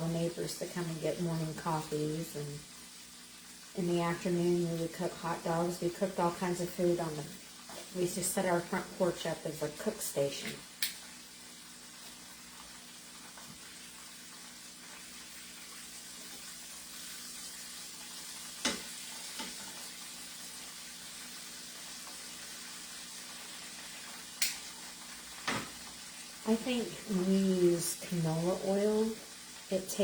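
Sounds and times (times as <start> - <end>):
chicken frying in oil: 0.0 - 30.0.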